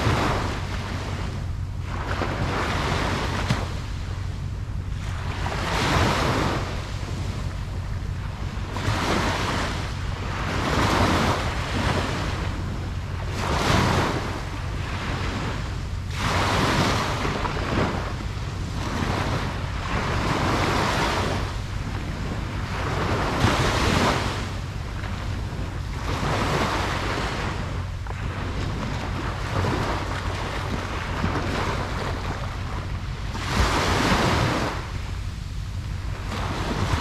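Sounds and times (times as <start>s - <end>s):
ocean surf breaking: 0.0s - 4.2s, 5.0s - 7.4s, 8.6s - 35.2s, 36.0s - 37.0s
wind rumble on microphone: 0.0s - 37.0s.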